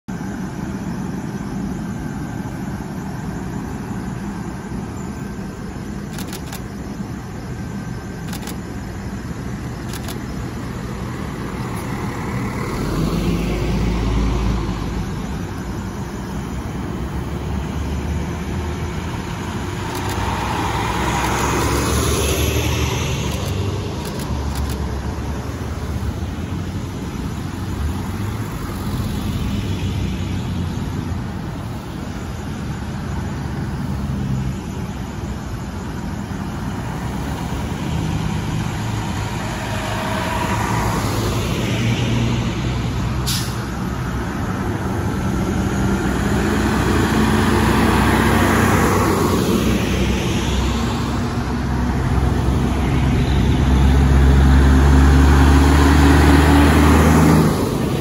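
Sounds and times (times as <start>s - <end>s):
cars driving slowly past: 0.1s - 58.0s.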